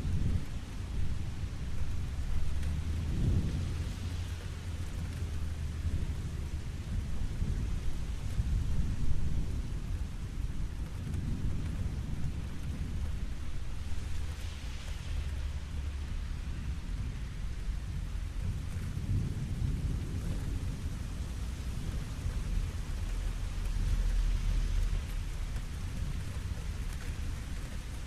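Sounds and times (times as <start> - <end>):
low rolling thunder: 0.0 - 28.0
steady rain falling: 0.0 - 28.0.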